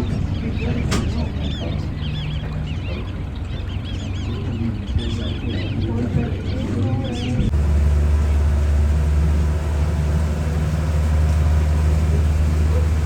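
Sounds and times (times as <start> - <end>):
low engine hum: 0.0 - 13.0
waterbirds calling: 0.0 - 13.0.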